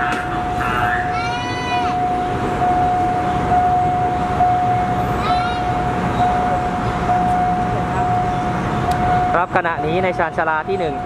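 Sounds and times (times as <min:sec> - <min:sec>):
crossing signal high tone: 0:00.0 - 0:11.0
diesel railcar idling: 0:00.0 - 0:11.0.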